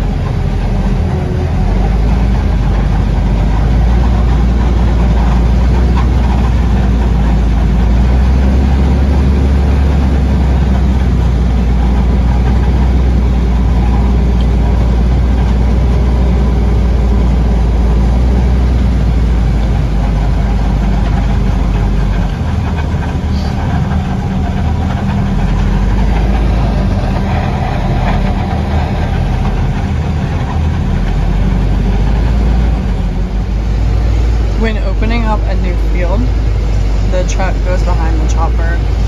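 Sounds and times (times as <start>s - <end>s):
diesel engines droning: 0.0s - 39.0s.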